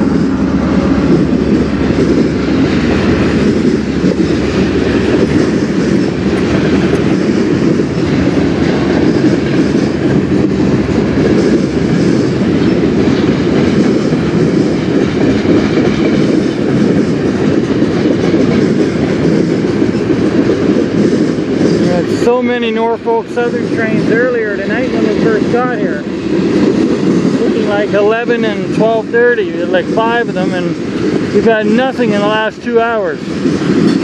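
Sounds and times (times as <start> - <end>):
steel wheels running on rails: 0.0 - 34.0.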